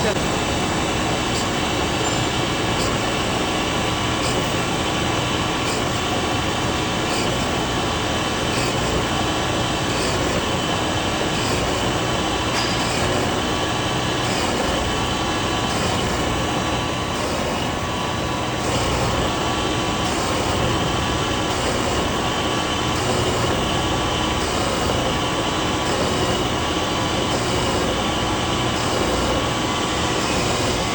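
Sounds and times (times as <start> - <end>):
metalworking machine whining: 0.0 - 30.9.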